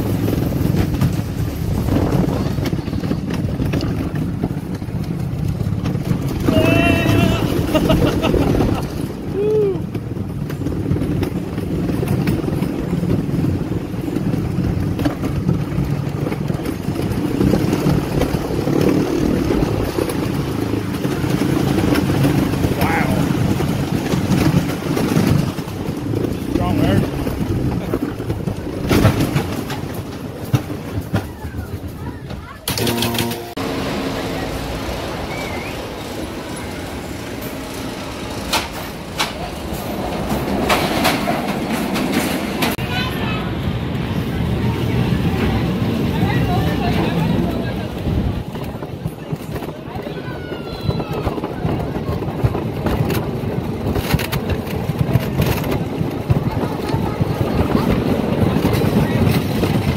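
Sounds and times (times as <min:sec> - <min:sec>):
roller coaster rumbling on wooden track: 0:00.0 - 0:59.9.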